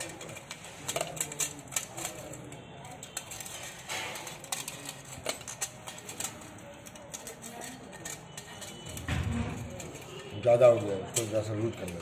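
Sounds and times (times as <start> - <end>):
wire clicks and scratches on ceramic: 0.0 - 12.0.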